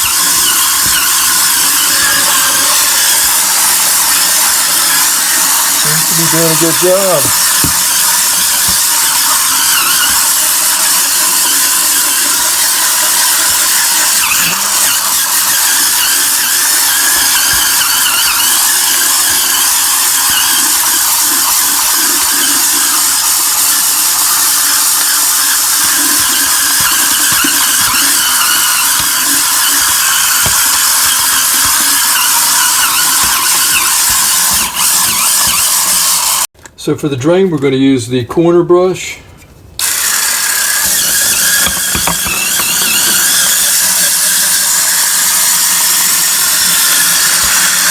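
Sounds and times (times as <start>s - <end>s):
bristles squealing on sink: 0.0s - 36.5s, 39.8s - 47.9s
scrubber motor whir: 0.0s - 36.5s, 39.8s - 47.9s.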